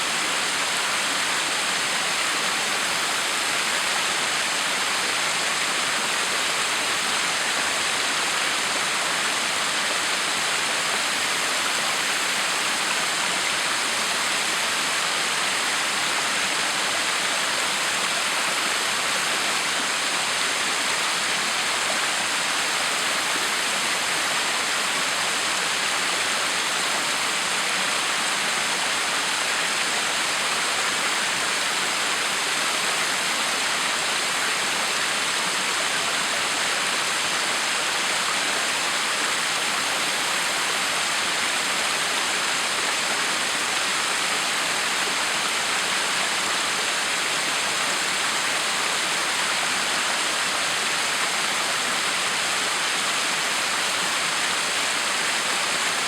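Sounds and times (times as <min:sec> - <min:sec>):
waterfall pouring and splashing: 0:00.0 - 0:56.0.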